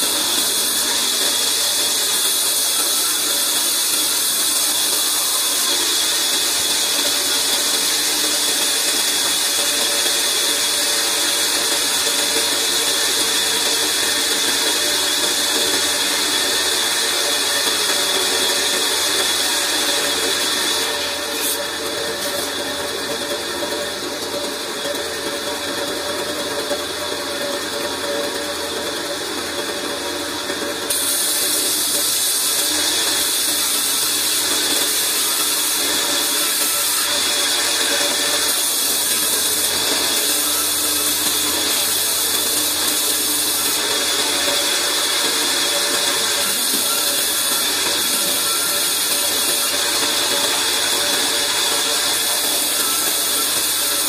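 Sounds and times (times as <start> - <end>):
band saw running: 0.0 - 54.0.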